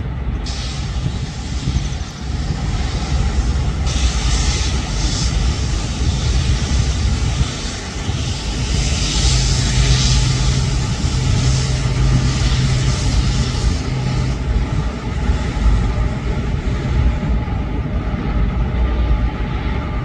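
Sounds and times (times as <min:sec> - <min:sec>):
freight train rumbling over bridge: 0:00.0 - 0:20.0.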